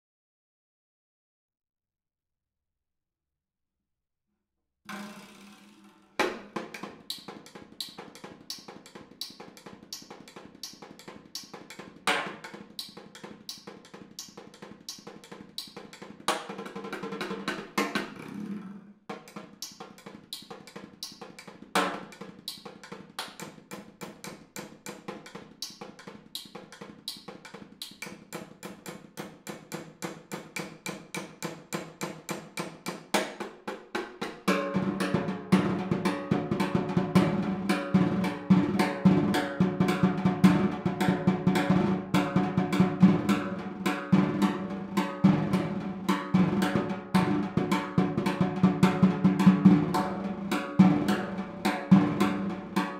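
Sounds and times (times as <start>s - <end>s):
snare drum played with sticks: 4.9s - 18.2s, 19.1s - 52.9s.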